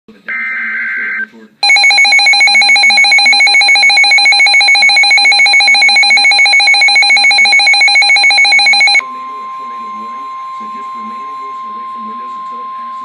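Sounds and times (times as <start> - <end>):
electronic alarm beeping: 1.6 - 13.0.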